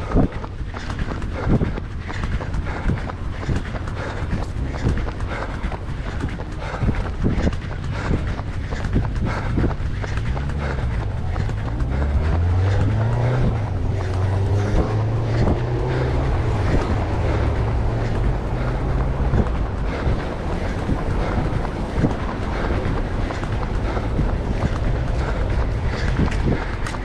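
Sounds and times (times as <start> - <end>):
vehicle engine humming: 0.0 - 27.0
wind buffeting microphone: 0.0 - 27.0.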